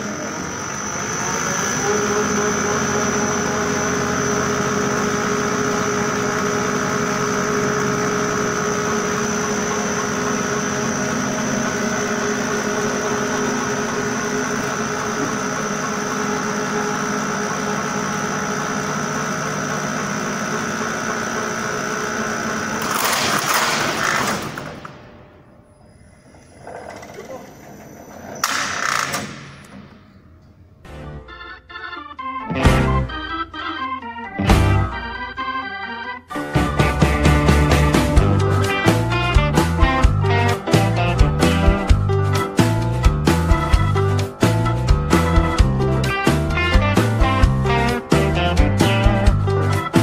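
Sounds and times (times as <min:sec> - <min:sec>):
held machine whine: 0:00.0 - 0:30.6, 0:31.2 - 0:50.0
machinery humming: 0:00.0 - 0:50.0.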